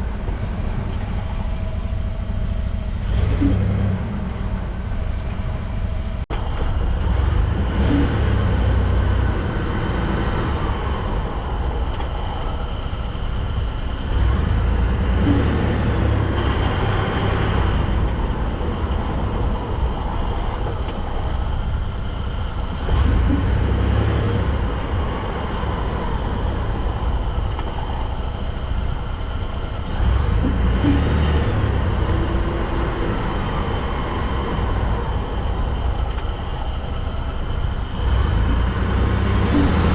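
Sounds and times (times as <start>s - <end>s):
truck engine pulling away: 0.0s - 39.9s.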